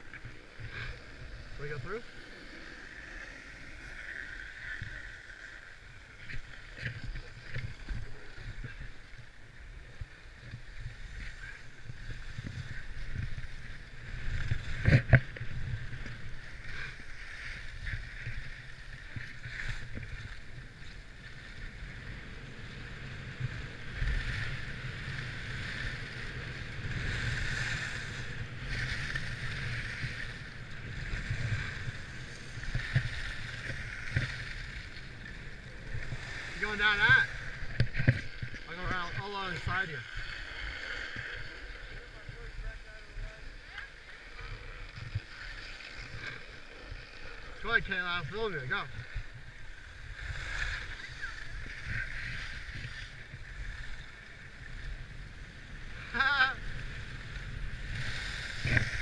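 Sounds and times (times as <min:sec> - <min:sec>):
skis scraping over snow: 0:00.0 - 0:59.0
wind rumble on microphone: 0:00.0 - 0:59.0.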